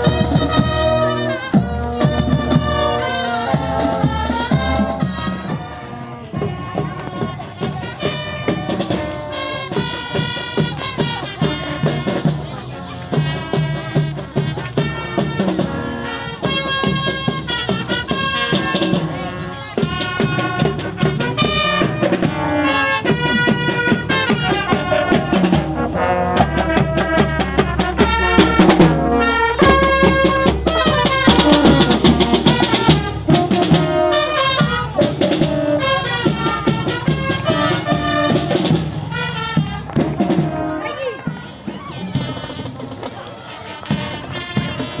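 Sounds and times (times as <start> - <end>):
brass melody: 0.0 - 45.0
marching drums: 0.0 - 45.0.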